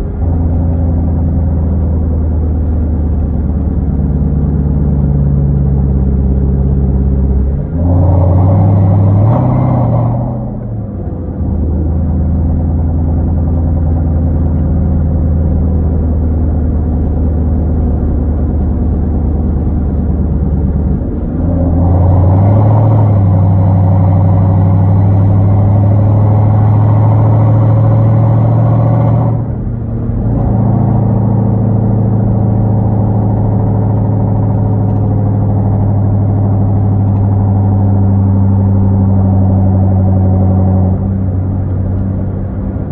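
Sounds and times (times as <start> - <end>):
car exhaust droning while driving: 0.0 - 42.9.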